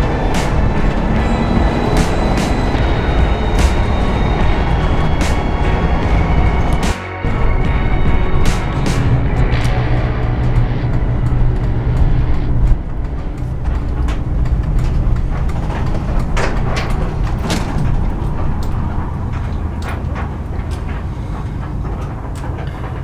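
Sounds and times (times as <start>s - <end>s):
sharp knocks and rattles: 0.0s - 23.0s
van engine and road noise: 0.0s - 23.0s.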